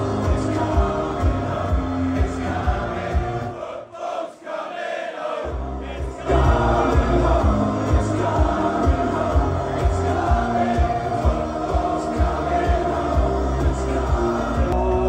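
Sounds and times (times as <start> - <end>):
loud music with bass beat: 0.0 - 3.5, 5.5 - 15.0
crowd singing: 0.0 - 15.0.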